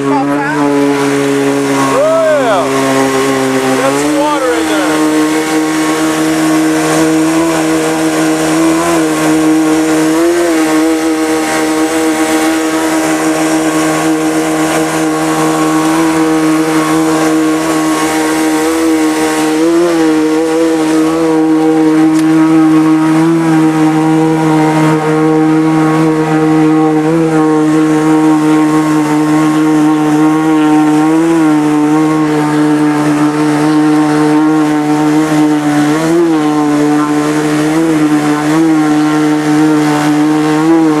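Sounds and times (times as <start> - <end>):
boat motor droning: 0.0 - 41.0.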